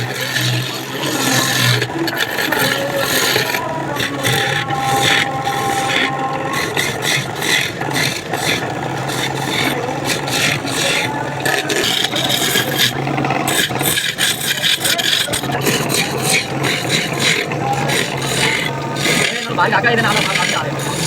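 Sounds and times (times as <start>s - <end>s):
lathe motor hum: 0.0s - 21.0s
tool scraping turning wood: 0.0s - 21.0s.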